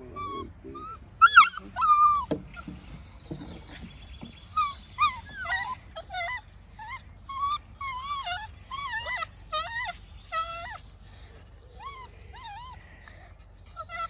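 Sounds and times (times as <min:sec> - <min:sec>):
puppies whining: 0:00.0 - 0:14.0.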